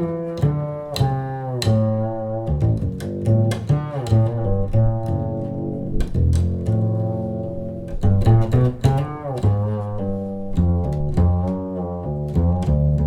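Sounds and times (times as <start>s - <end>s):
classical string music: 0.0s - 13.0s.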